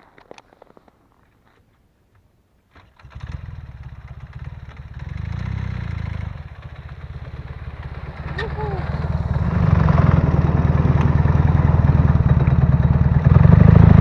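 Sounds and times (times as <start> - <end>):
motorcycle engine starting and idling: 2.7 - 14.0.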